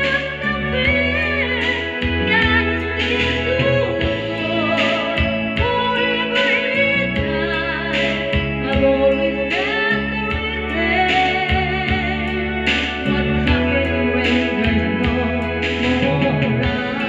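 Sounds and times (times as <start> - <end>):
backing track music: 0.0 - 17.0
woman singing karaoke: 0.0 - 17.0.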